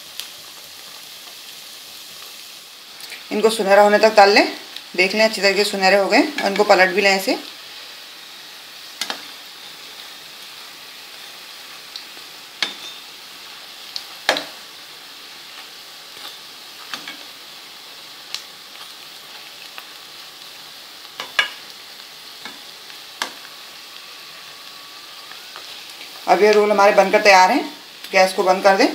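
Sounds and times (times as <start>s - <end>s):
food deep-frying in oil: 0.0s - 28.9s.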